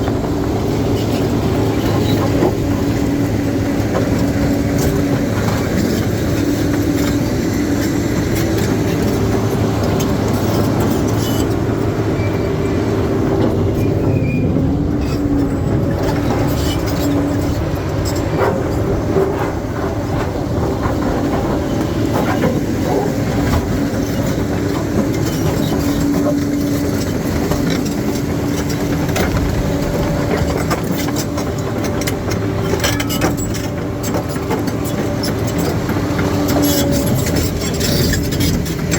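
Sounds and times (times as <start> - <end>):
bulldozer diesel engine: 0.0 - 38.9
steel tracks clanking: 0.0 - 38.9.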